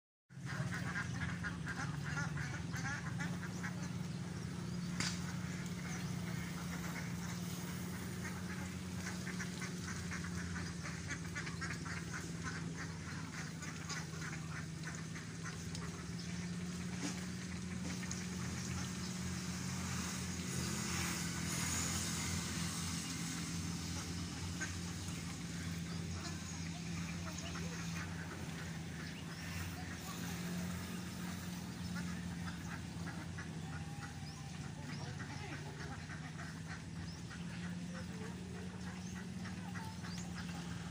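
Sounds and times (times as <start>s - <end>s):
ducks quacking: 0.3s - 40.9s
low machine hum: 0.3s - 40.9s.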